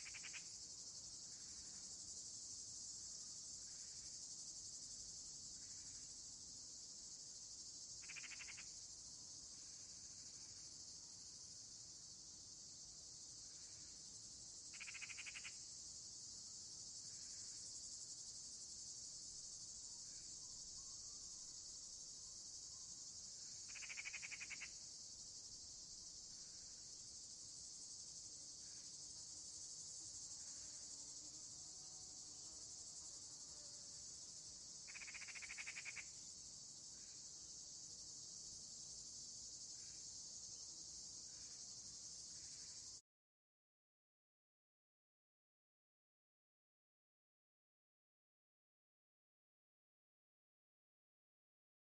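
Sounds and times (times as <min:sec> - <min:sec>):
insects chorus: 0:00.0 - 0:43.0
rapidly pulsed insect buzz: 0:00.0 - 0:43.0.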